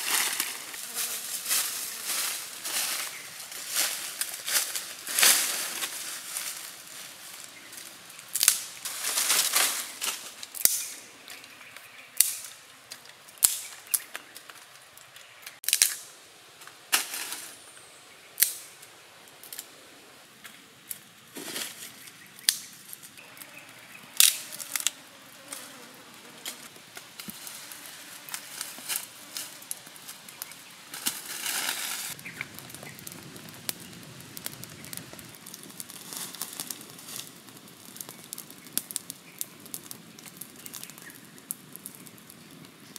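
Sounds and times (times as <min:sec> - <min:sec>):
dry branches cracking and snapping: 0:00.0 - 0:16.1, 0:18.4 - 0:18.8, 0:20.8 - 0:23.2, 0:24.2 - 0:25.6, 0:26.4 - 0:42.8
rustling of branches and leaves: 0:00.0 - 0:42.9.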